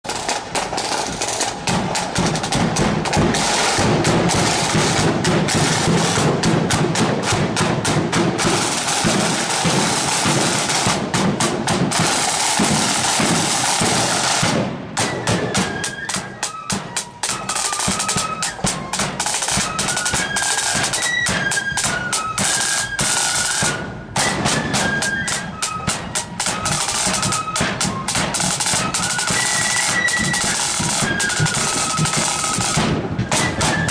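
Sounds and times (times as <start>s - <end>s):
snare and bass drums: 0.0s - 33.9s
flutes playing melody: 0.6s - 33.9s.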